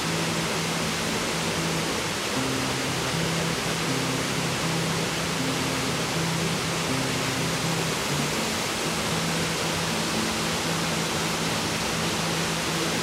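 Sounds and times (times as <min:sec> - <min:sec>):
slow melody of low notes: 0:00.0 - 0:13.0
waterfall rushing: 0:00.0 - 0:13.0.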